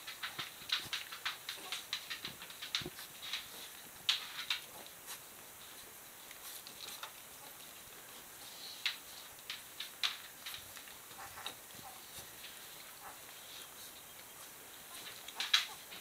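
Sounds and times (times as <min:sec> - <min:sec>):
puppies suckling smacking clicks: 0:00.0 - 0:16.0.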